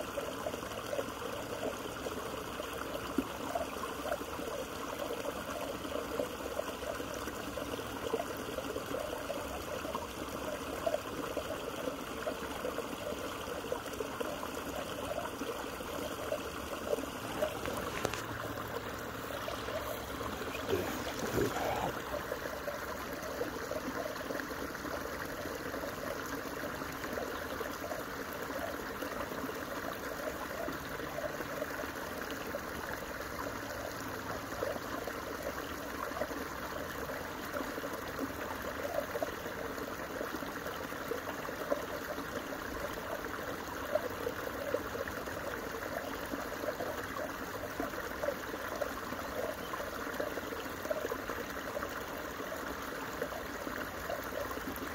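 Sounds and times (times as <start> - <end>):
water trickling and gurgling: 0.0 - 54.9.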